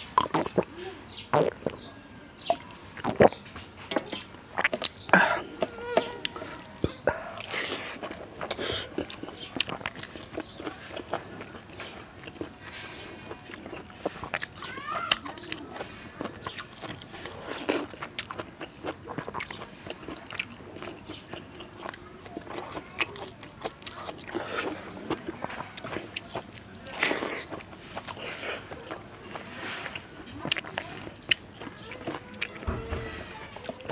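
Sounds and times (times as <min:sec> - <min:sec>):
food crunching: 0:01.3 - 0:33.9
person chewing and lip-smacking: 0:02.5 - 0:33.9.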